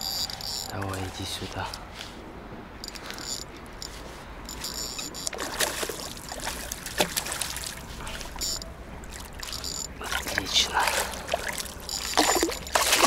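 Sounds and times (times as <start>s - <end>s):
water splashing and sloshing: 1.8s - 13.0s.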